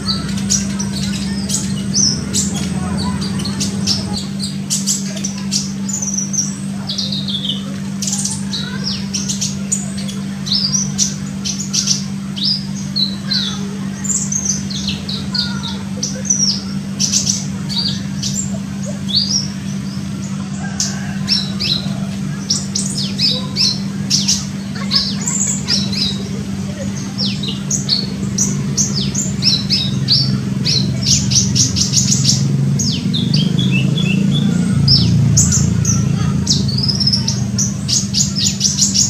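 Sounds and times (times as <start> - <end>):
bird chirping rapidly: 0.0 - 39.0
steady low hum: 0.0 - 39.0.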